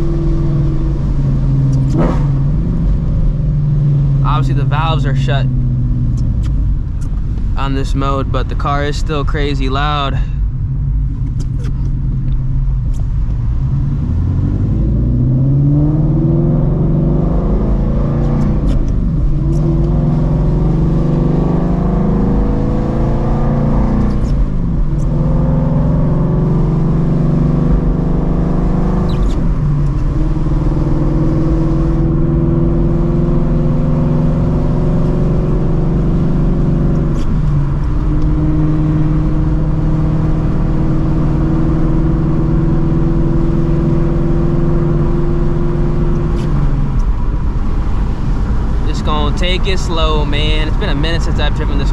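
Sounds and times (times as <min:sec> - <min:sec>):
loud car engine revving: 0:00.0 - 0:10.3, 0:10.9 - 0:51.9.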